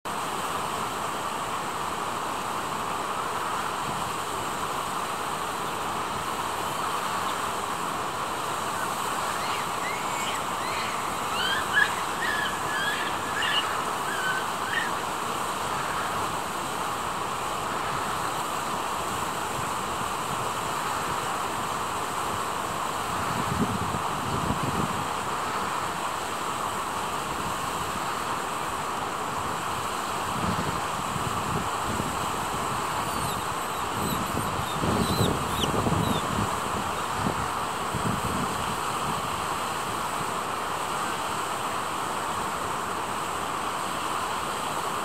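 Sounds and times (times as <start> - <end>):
flowing water: 0.1 - 45.0.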